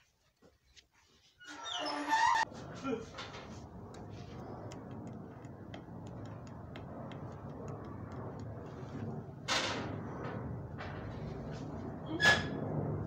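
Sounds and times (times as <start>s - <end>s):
steady low hum: 2.4s - 13.0s.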